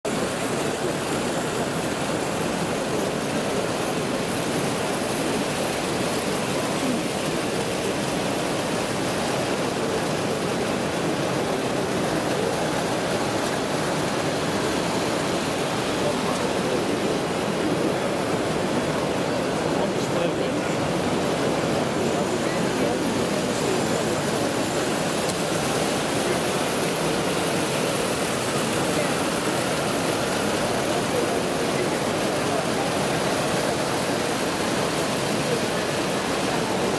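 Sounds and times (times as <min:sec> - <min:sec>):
crowd hubbub in a hall: 0:00.0 - 0:36.9
model trains running on track: 0:00.0 - 0:36.9.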